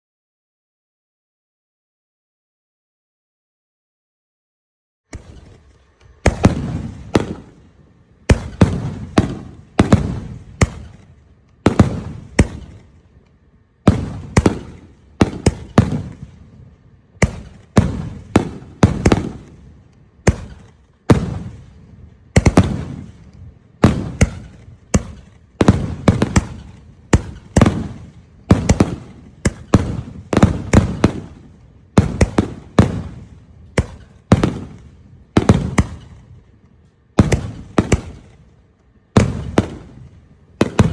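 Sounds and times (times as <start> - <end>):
firework bangs: 5.1 - 40.9.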